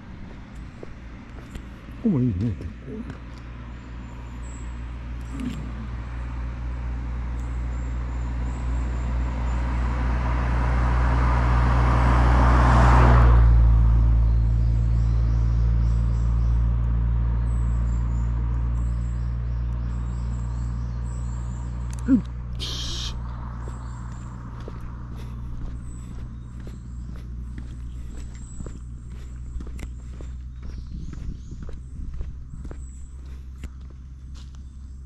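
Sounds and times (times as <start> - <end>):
vehicle engine passing by: 0.0 - 35.0.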